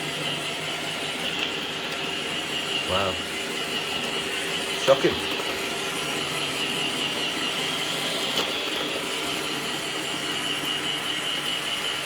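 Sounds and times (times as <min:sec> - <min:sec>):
robot vacuum running: 0:00.0 - 0:12.0.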